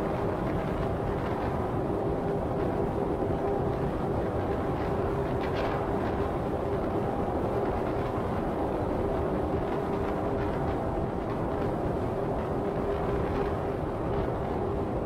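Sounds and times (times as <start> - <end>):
constant low hum: 0.0 - 15.0
wind: 0.0 - 15.0.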